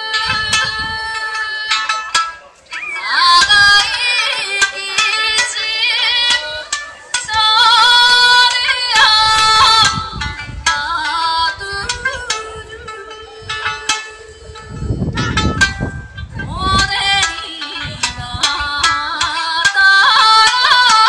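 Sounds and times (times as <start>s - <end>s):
woman singing: 0.0s - 15.4s, 16.4s - 21.0s
plucked lute notes: 0.0s - 21.0s.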